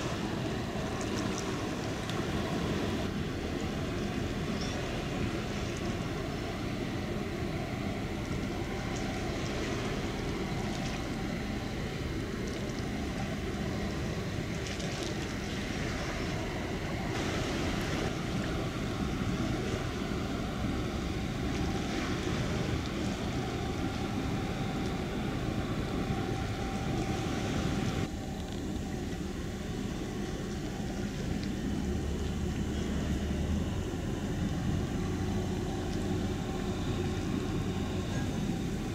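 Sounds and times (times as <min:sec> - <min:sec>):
boat engine rumble: 0:00.0 - 0:38.9
water rushing from wake: 0:00.0 - 0:38.9.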